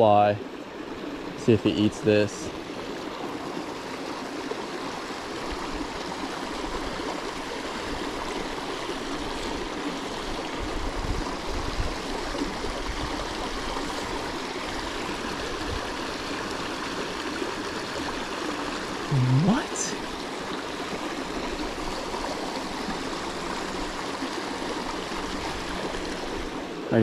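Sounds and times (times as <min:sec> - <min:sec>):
creek water rushing over rocks: 0:00.0 - 0:27.0.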